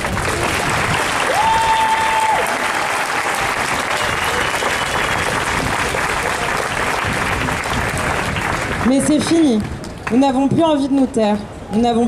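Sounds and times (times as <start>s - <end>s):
crowd clapping: 0.0s - 10.4s.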